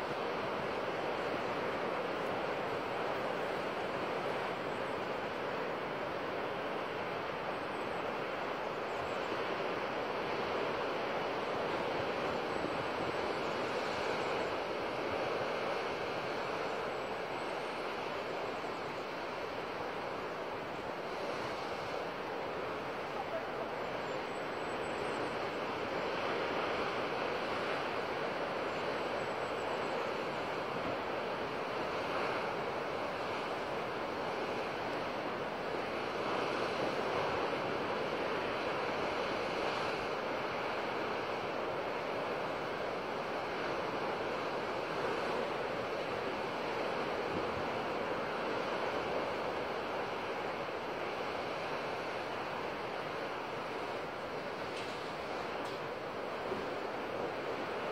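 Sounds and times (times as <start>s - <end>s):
surf washing over rocks: 0.0s - 57.9s.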